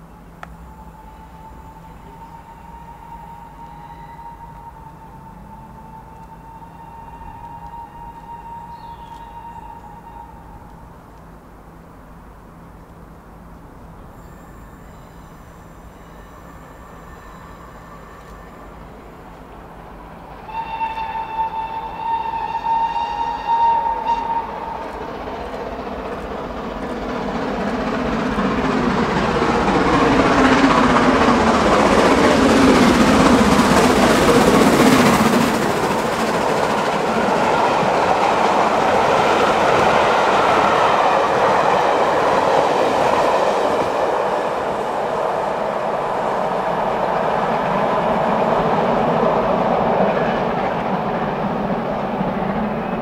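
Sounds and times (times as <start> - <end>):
steam locomotive passing: 0.0 - 53.0.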